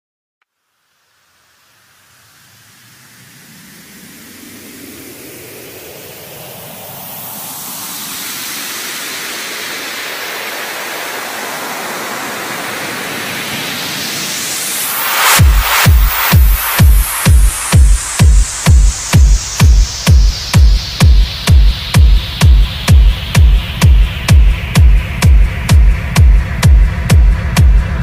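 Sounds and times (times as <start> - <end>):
synthesized white-noise riser: 0.5 - 28.0.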